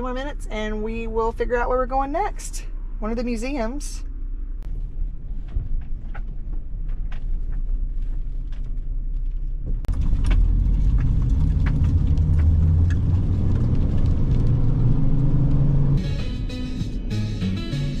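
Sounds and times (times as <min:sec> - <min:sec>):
van engine and road rumble: 0:00.0 - 0:18.0.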